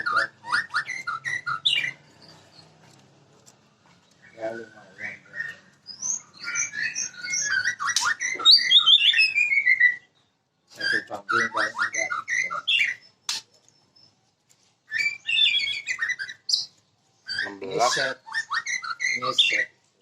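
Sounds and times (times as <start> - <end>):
bird singing: 0.0 - 19.8.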